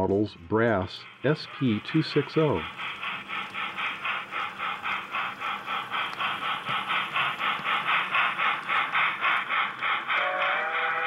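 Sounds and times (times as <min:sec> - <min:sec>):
model steam locomotive chuffing: 0:00.0 - 0:11.0.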